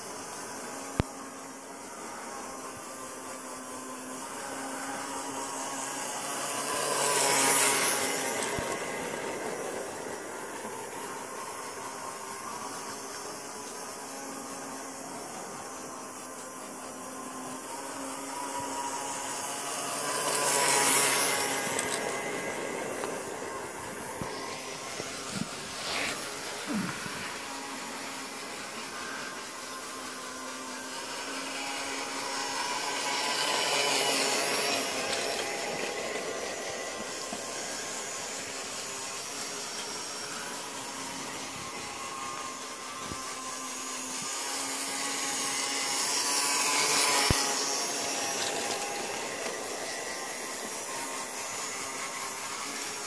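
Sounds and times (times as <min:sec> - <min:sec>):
toy train motor whirring: 0:00.0 - 0:53.0.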